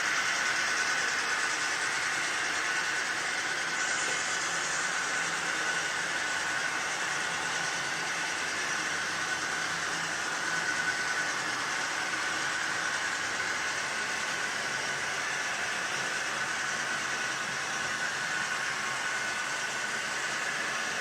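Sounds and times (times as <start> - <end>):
model train rushing noise: 0.0 - 21.0.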